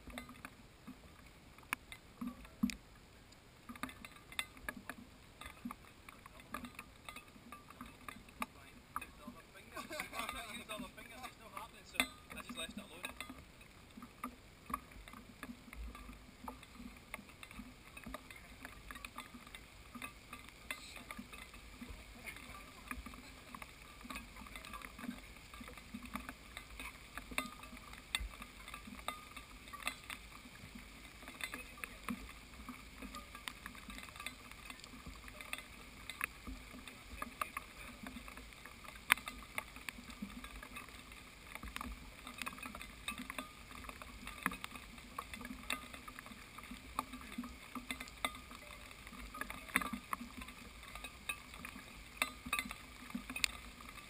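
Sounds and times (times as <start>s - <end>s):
faint steady hiss: 0.0s - 54.0s
water drops ticking on camera: 0.0s - 54.0s.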